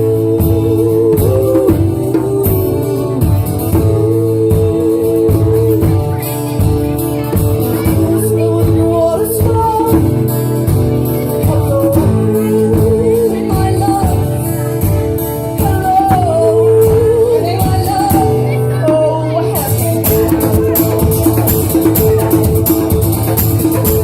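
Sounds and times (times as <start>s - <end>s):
person singing: 0.0s - 6.5s, 7.6s - 24.0s
drums keeping a steady beat: 0.0s - 24.0s
guitar: 0.0s - 24.0s.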